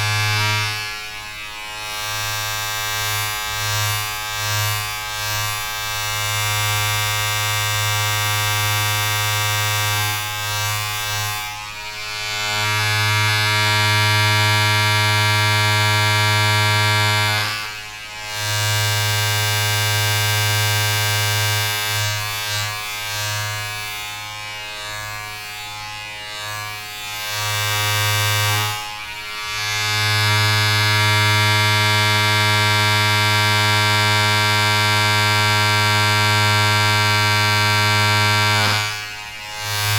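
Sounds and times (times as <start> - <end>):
electric buzzing drone: 0.0 - 39.9.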